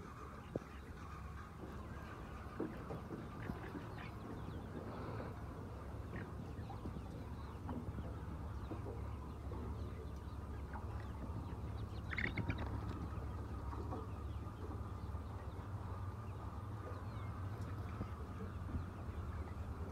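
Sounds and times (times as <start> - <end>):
chickens clucking: 0.0 - 19.9.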